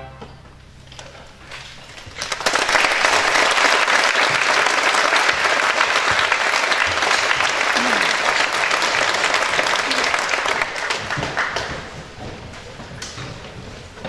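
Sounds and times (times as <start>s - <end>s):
audience applauding: 1.8s - 13.3s.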